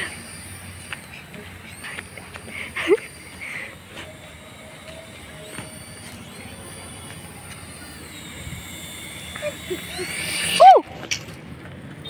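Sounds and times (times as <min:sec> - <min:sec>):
toy helicopter motor whining: 0:00.0 - 0:12.0.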